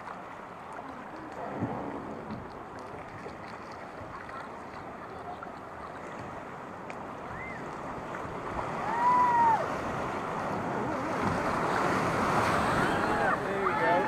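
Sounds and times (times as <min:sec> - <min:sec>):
river water rushing past boat hull: 0:00.0 - 0:14.0.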